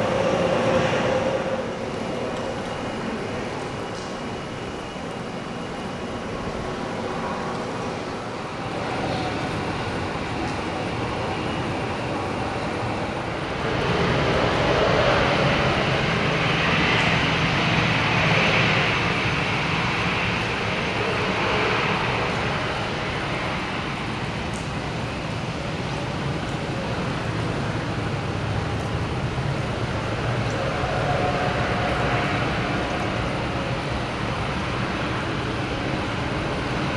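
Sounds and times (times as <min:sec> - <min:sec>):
jet engines running: 0:00.0 - 0:36.9.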